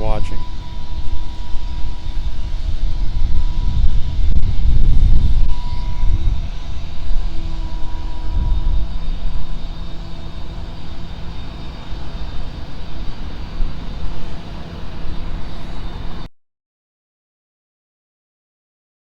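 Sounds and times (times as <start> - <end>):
faint steady tones: 0.0 - 16.3
street noise rumble: 0.0 - 16.3.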